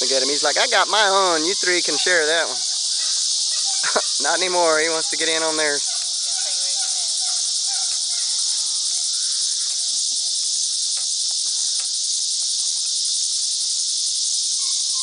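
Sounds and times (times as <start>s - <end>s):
insect chorus buzzing: 0.0s - 15.0s.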